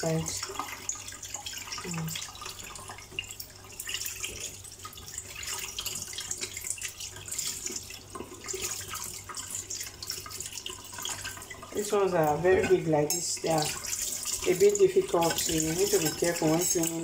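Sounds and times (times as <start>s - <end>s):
tap water running into a sink: 0.0s - 17.0s.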